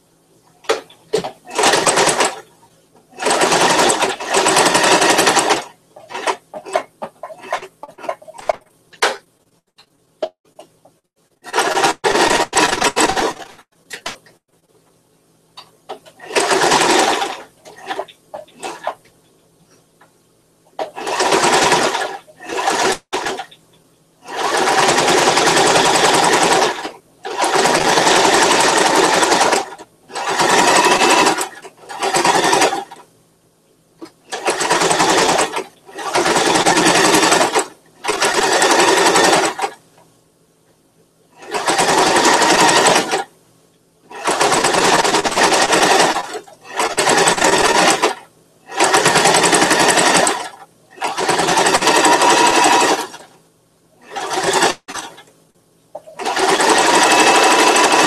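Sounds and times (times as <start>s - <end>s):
sewing machine stitching: 0.6s - 9.2s, 11.4s - 14.4s, 15.9s - 19.0s, 20.7s - 23.6s, 24.2s - 33.1s, 34.0s - 39.8s, 41.4s - 43.3s, 44.1s - 53.3s, 54.0s - 55.3s, 56.0s - 58.0s.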